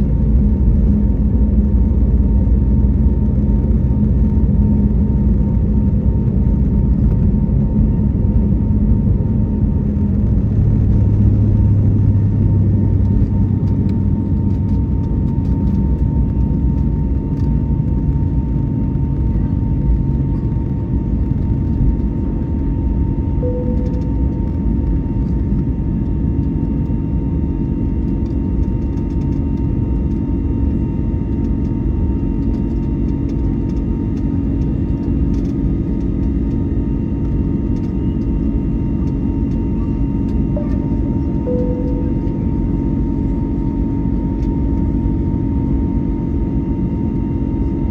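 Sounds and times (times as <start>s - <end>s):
steady hum: 0.0s - 27.1s, 32.2s - 47.2s
jet engine rumble in cabin: 0.0s - 47.9s.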